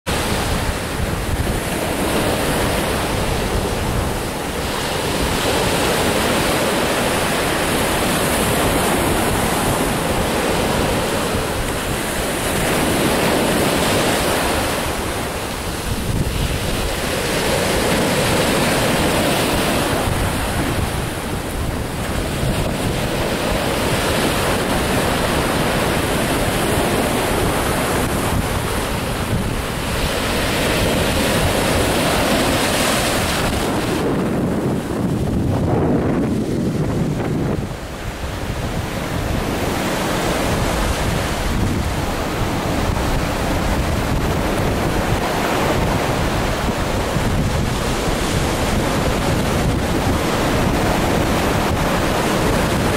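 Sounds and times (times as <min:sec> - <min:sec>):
sea waves breaking: 0:00.1 - 0:52.9
wind buffeting microphone: 0:00.1 - 0:52.9.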